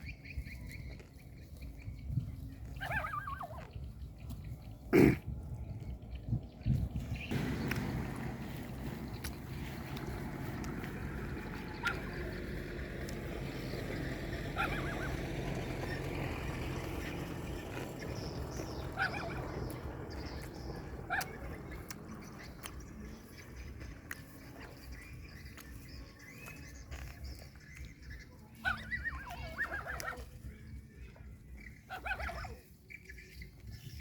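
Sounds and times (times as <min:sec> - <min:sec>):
bird chirps: 0:00.0 - 0:05.0, 0:05.6 - 0:30.8
low engine hum: 0:00.0 - 0:34.0.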